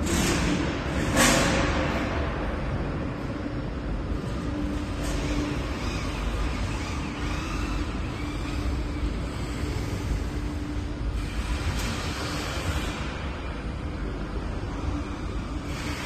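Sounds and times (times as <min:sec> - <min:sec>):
constant noisy rush: 0:00.0 - 0:16.0
machinery humming: 0:00.0 - 0:16.0.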